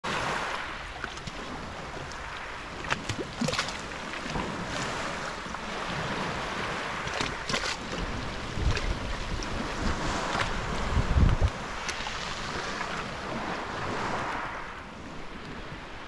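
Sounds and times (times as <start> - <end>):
small waves lapping on shore: 0.0 - 16.0
wind on microphone: 0.1 - 16.0.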